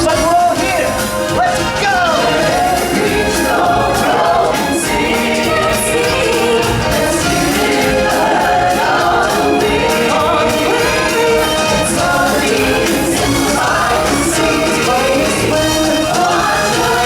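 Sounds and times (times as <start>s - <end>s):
group of voices singing: 0.0s - 17.0s
live band playing: 0.0s - 17.0s.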